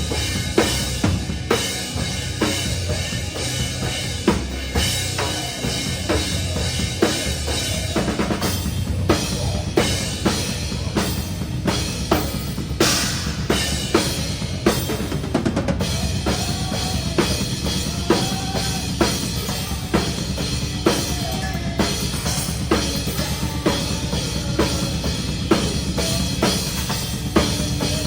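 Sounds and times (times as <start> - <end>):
bass drum: 0.0 - 28.0
distorted guitar and bass: 0.0 - 28.0
metalcore band playing live: 0.0 - 28.0.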